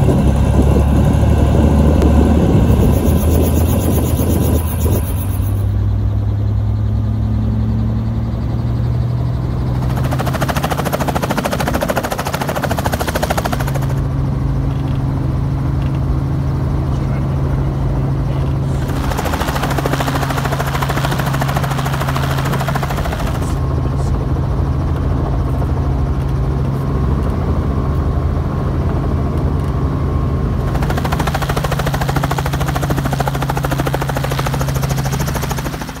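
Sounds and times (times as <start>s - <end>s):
main rotor beating: 0.0s - 14.5s, 16.0s - 26.7s, 30.6s - 36.0s
helicopter engine drone: 0.0s - 36.0s.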